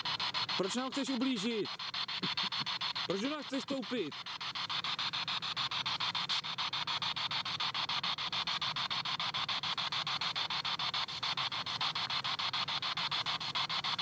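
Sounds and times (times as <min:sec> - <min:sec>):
radio static pulsing: 0:00.0 - 0:14.0.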